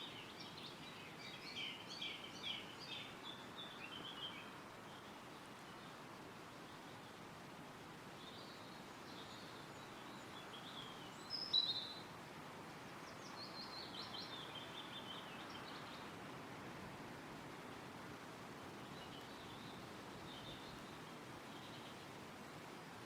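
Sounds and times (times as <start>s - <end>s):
wild birds singing: 0.0s - 7.3s, 8.1s - 16.4s, 17.5s - 22.7s
wind rustling through trees: 0.0s - 23.0s.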